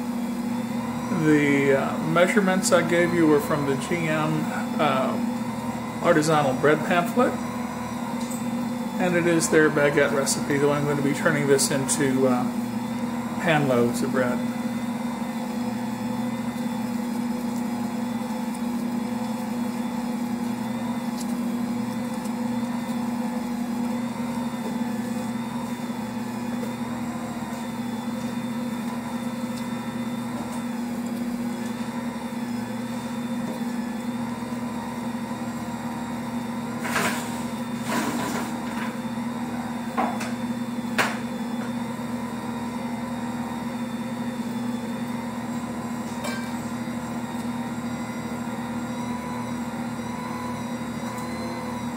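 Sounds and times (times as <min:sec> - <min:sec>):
stand mixer motor hum: 0:00.0 - 0:51.9.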